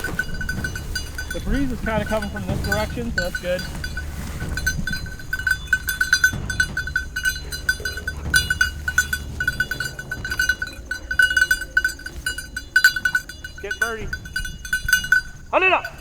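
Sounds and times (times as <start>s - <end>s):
dog collar bell jingling: 0.0s - 16.0s.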